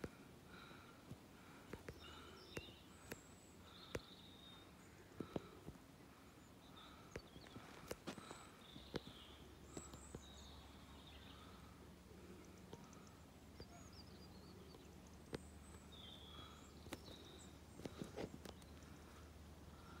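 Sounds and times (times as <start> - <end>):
faint bird chirps: 1.8 - 20.0.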